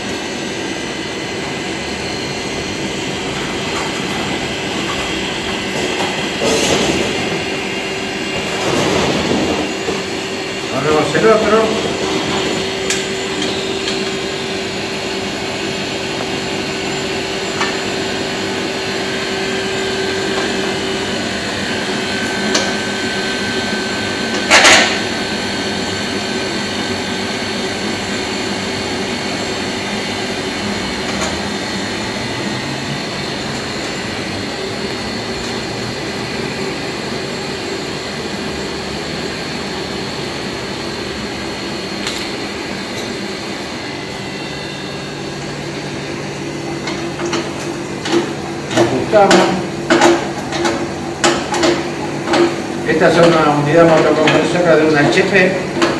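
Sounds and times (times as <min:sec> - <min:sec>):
machine whir: 0:00.0 - 0:55.9.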